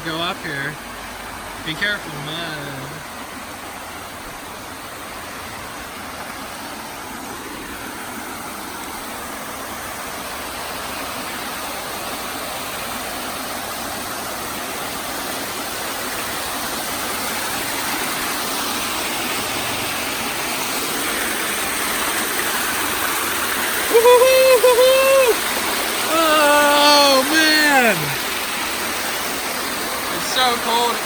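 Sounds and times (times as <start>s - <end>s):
water splashing over waterfall: 0.0s - 31.0s.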